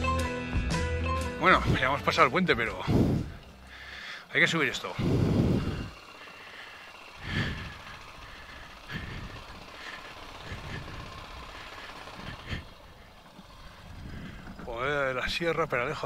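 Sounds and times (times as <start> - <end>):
motorcycle engine throttle bursts: 1.4 - 16.0.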